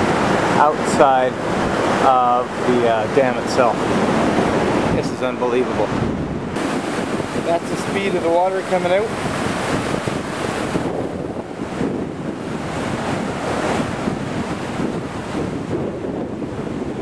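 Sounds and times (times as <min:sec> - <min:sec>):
rushing turbulent water: 0:00.0 - 0:17.0.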